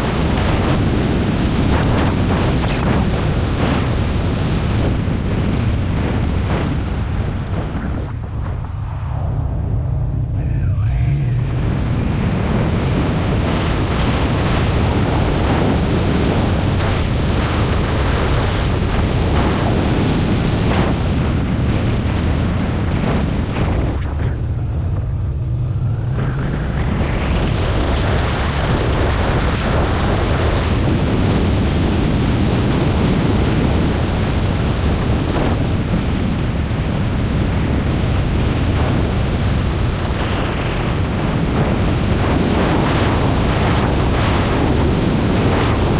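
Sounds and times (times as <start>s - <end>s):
motorcycle engine and road rumble: 0.0s - 45.9s
wind buffeting microphone: 0.0s - 45.9s.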